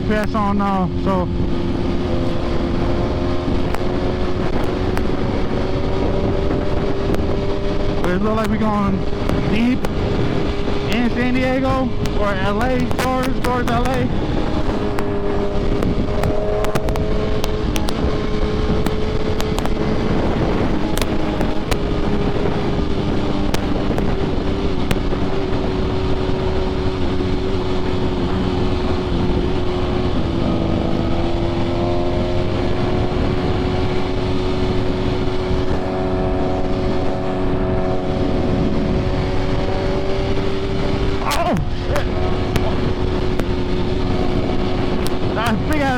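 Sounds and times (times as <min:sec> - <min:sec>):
motorcycle engine cruising: 0:00.0 - 0:45.9
wind rush on microphone: 0:00.0 - 0:45.9.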